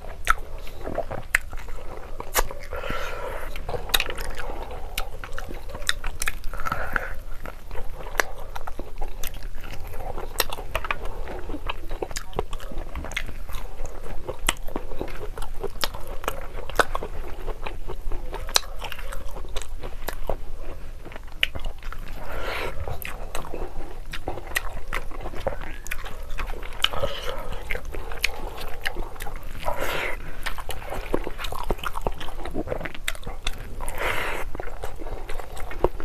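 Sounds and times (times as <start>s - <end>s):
wet chewing mouth sounds: 0.0s - 36.0s.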